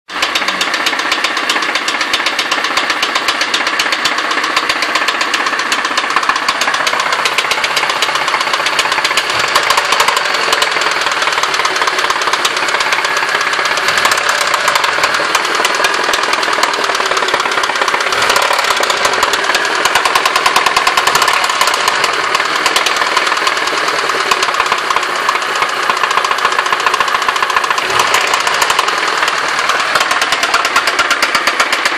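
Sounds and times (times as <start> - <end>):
engine running with rod knock: 0.1 - 31.9.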